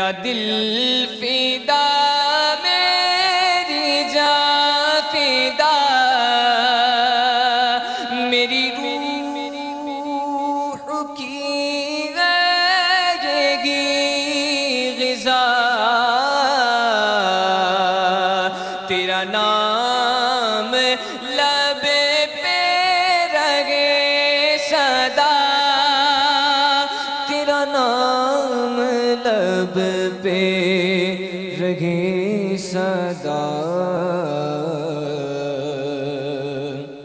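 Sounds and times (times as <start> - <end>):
man singing a devotional hymn: 0.0 - 37.0.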